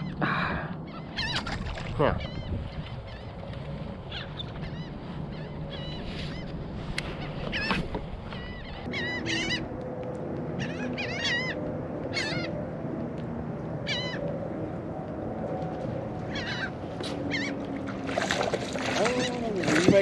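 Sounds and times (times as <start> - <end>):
seabirds calling: 0.0 - 20.0.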